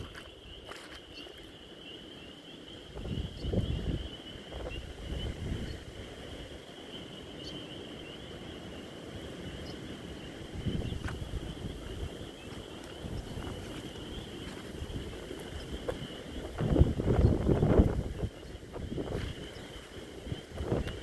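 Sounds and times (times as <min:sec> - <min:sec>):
wind rumble on microphone: 0:00.0 - 0:01.8, 0:02.8 - 0:08.2, 0:09.1 - 0:21.0
spring peepers chorus: 0:00.0 - 0:21.0.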